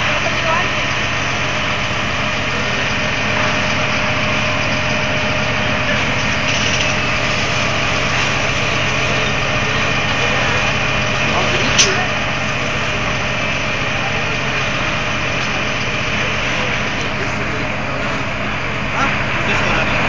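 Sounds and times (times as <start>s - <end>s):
fire truck engine running: 0.0s - 20.0s.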